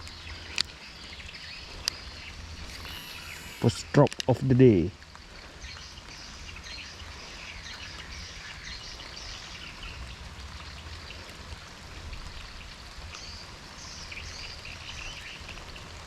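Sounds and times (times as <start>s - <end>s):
rain patter: 0.0s - 16.0s.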